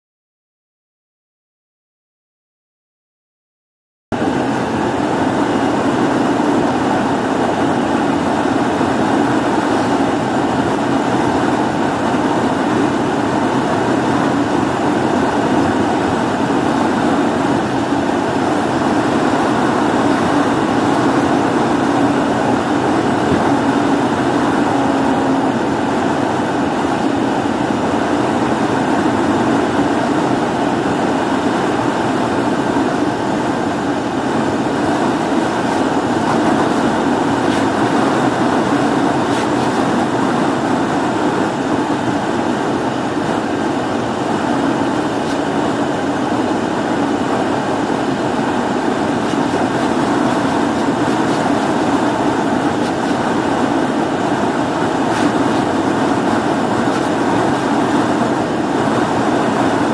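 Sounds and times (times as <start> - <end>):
truck cab road roar: 4.1 - 59.9.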